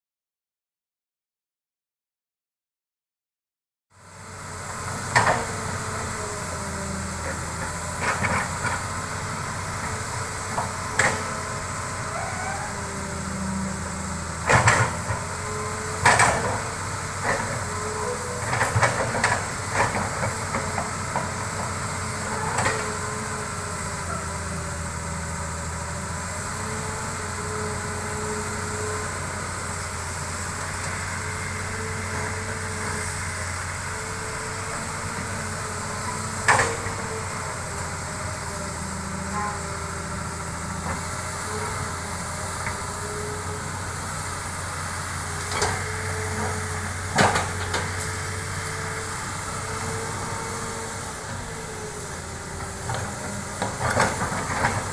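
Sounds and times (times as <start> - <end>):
diesel engine drone: 3.9 - 54.9
hydraulic whine: 4.2 - 54.9.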